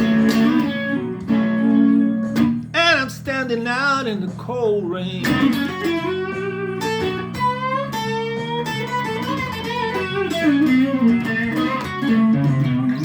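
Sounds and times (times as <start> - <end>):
electric guitar blues lead: 0.0 - 13.0.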